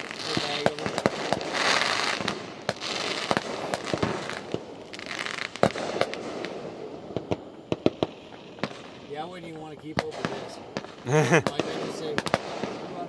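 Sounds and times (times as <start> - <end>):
fireworks bangs: 0.0 - 9.3, 9.9 - 13.0
fireworks crackling: 0.0 - 13.0.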